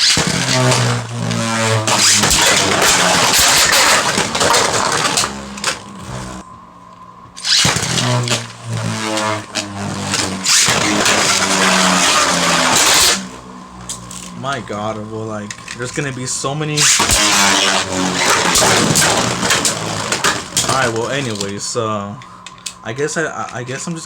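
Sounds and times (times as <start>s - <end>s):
spinning tops colliding: 0.0s - 6.4s, 7.4s - 21.7s
steady hum: 0.0s - 24.0s.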